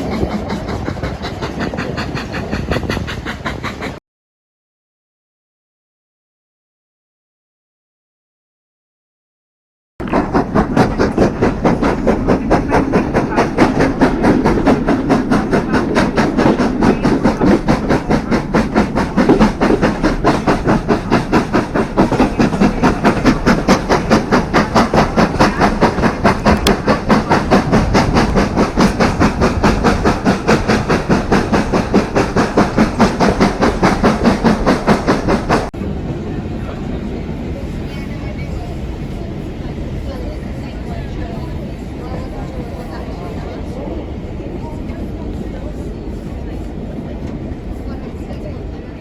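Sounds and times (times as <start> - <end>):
steam hiss and rumble: 0.0 - 4.0, 10.0 - 49.0
steam locomotive exhaust beating: 0.0 - 4.0, 10.0 - 49.0.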